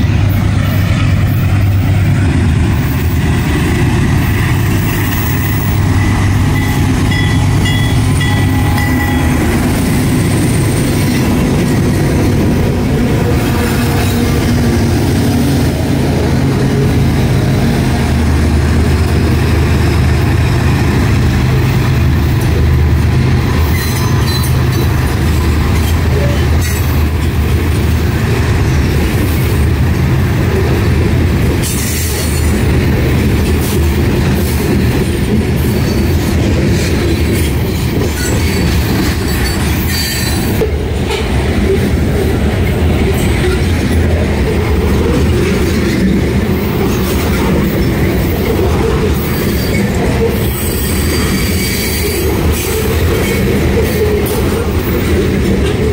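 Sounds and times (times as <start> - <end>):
diesel locomotives passing: 0.0 - 55.9
train wheels rumbling on rail: 0.0 - 55.9.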